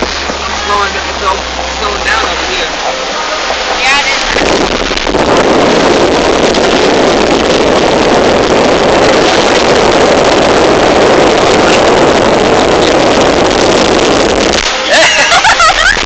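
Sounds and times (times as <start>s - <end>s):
wind and road noise inside car: 0.0s - 16.0s.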